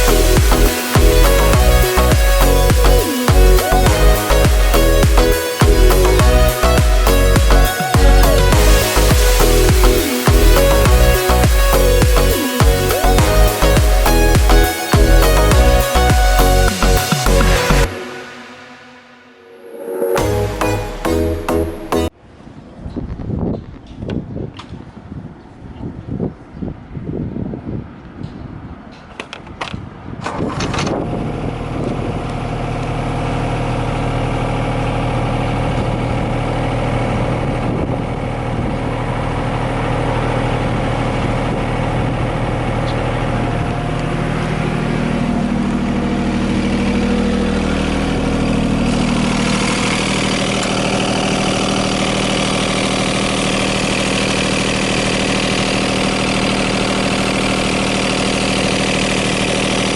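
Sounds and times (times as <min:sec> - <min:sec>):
diesel engine cranking and idling: 0:00.0 - 0:18.5, 0:30.4 - 0:59.9.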